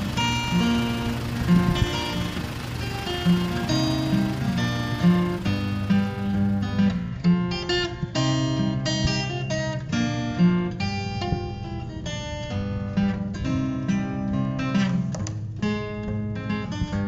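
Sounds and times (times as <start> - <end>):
acoustic guitar strummed and plucked: 0.0 - 17.0.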